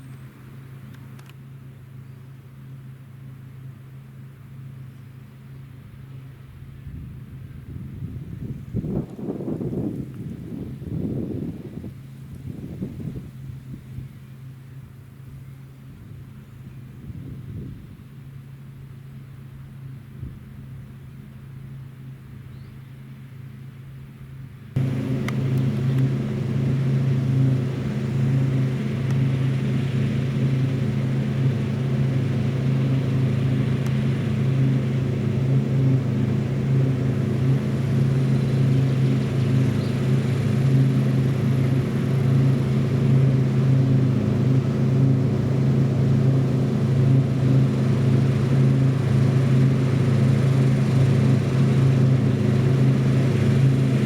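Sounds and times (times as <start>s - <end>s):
diesel engine droning under load: 0.0s - 54.0s.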